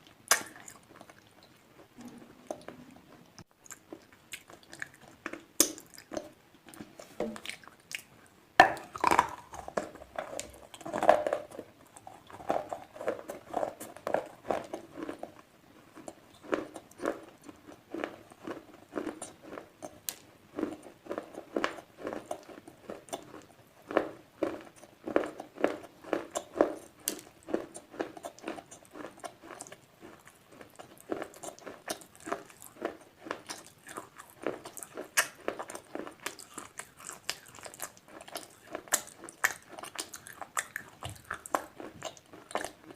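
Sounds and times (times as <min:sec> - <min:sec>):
sharp dry crunches of chewing: 0:00.0 - 0:42.9.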